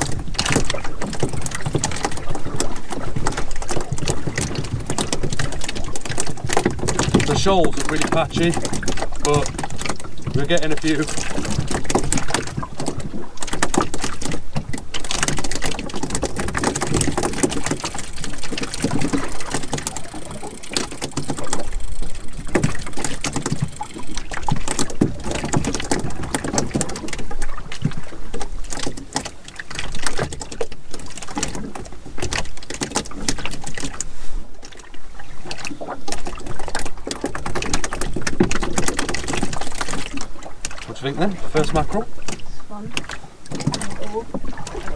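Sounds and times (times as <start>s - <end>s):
water slapping against boat hull: 0.0s - 44.9s.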